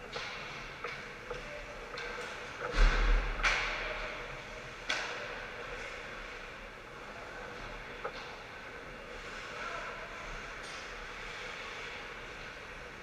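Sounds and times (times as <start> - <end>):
arena noise: 0.0 - 13.0.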